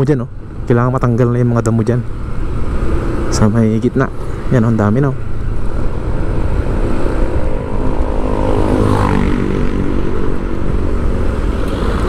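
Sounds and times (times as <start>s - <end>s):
heavy low rumble: 0.0s - 12.0s
vehicle engine droning: 0.0s - 12.0s.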